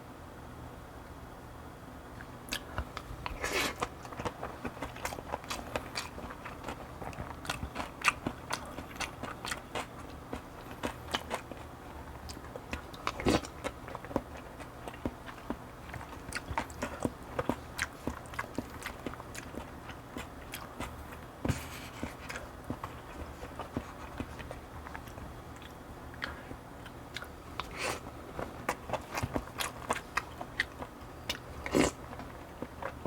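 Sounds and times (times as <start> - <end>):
chewing mouth sounds: 2.2 - 33.0.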